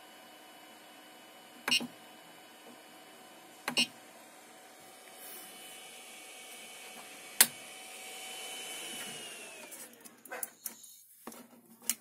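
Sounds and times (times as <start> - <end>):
cooling fans whining: 0.0 - 10.9.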